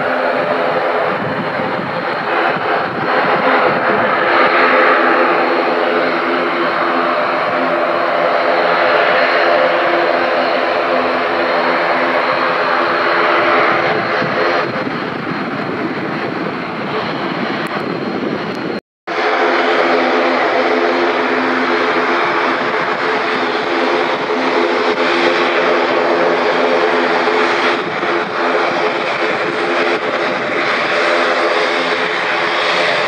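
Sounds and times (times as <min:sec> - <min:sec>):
turboprop engines droning: 0:00.0 - 0:33.0.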